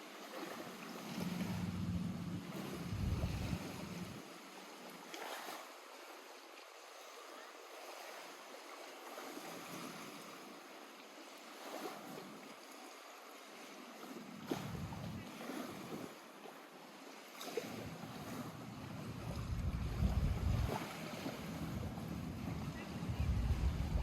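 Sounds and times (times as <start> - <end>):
lake waves lapping at shore: 0.0 - 24.0.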